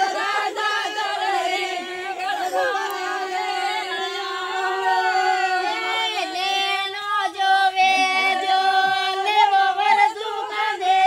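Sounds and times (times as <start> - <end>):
group of women singing unaccompanied: 0.0 - 11.0.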